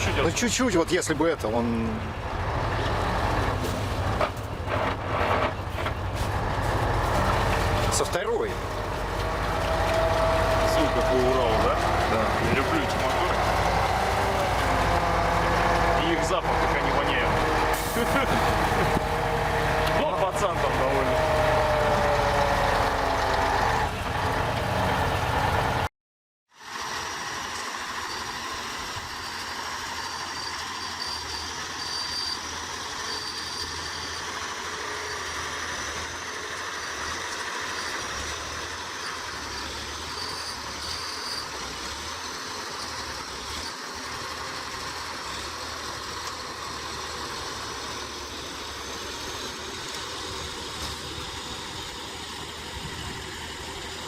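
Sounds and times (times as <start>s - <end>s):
loud engine noise: 0.0s - 25.9s, 26.6s - 54.0s.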